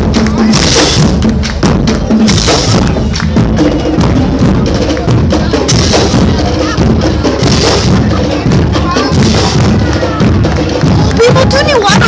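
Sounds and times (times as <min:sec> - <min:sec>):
loud percussive music: 0:00.0 - 0:12.0.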